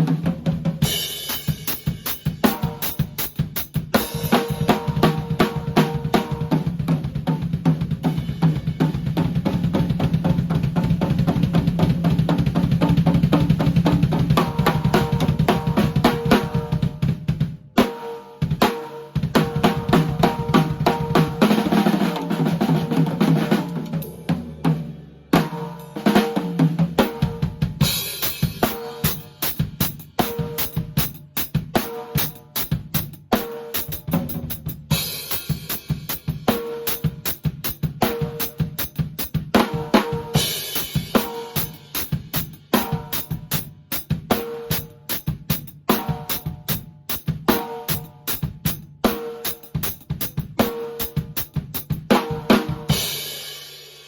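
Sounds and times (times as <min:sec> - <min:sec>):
drum kit fast groove: 0:00.0 - 0:54.0.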